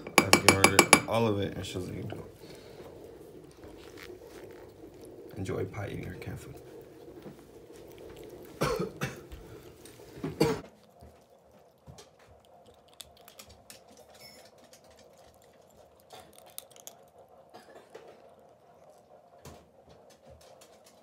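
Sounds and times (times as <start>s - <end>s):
cat crunching kibble: 1.6s - 21.0s.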